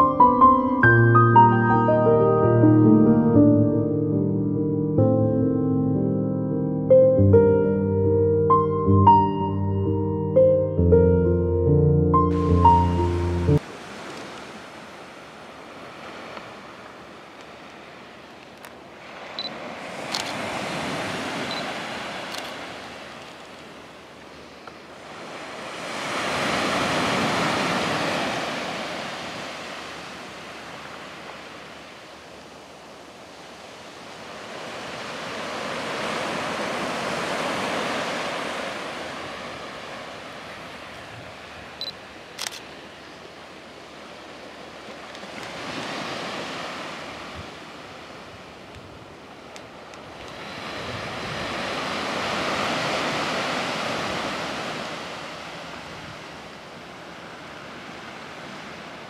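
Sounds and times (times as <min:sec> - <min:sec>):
ocean waves washing in: 0:09.9 - 0:59.0.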